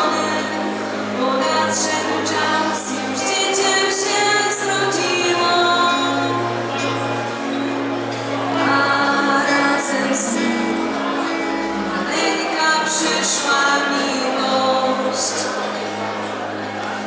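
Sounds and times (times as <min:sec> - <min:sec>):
vocal ensemble singing a carol: 0:00.0 - 0:16.3.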